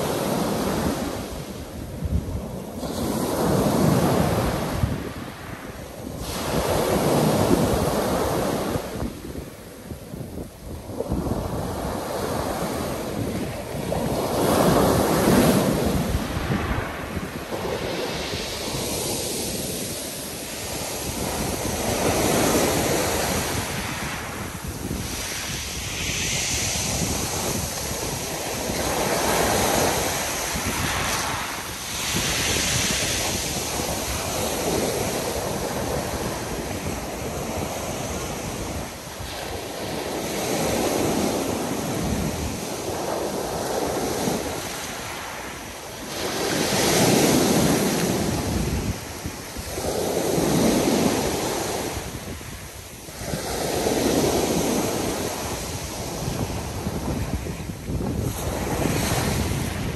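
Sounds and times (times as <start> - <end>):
waves breaking on pebble beach: 0.0 - 59.9.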